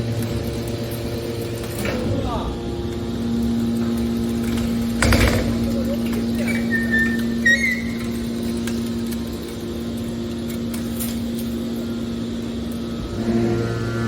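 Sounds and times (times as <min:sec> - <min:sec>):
hydraulic power unit hum: 0:00.0 - 0:14.0.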